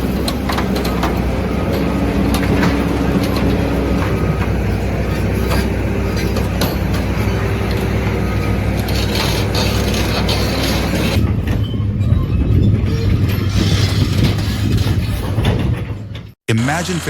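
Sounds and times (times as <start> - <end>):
knocks and clanks: 0.0 - 16.4
diesel machinery running: 0.0 - 17.0.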